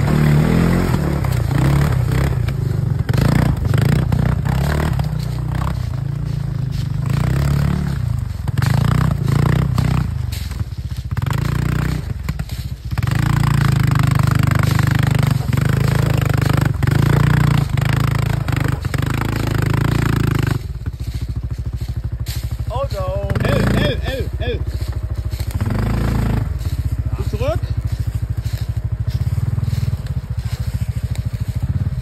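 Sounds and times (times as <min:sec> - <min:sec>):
quad bike engine running: 0:00.0 - 0:32.0.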